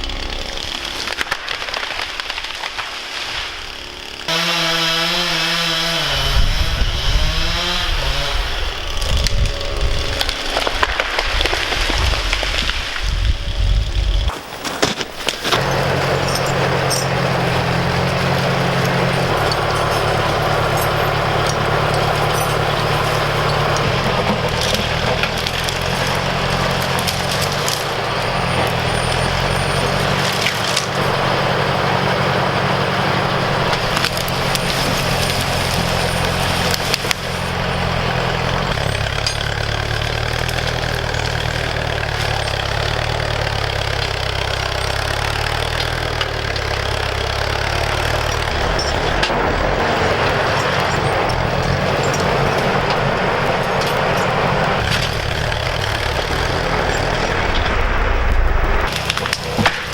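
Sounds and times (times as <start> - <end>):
tractor engine running: 0.0 - 59.9
wood cracking and snapping: 0.0 - 59.9.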